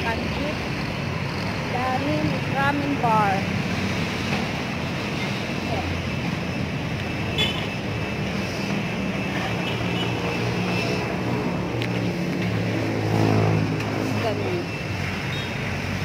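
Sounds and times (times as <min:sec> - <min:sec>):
vehicle engines and road noise: 0:00.0 - 0:16.0.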